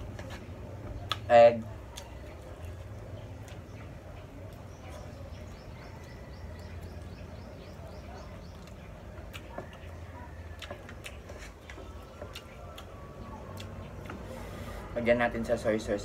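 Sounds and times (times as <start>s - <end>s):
chewing and mouth noises: 0.0s - 14.9s.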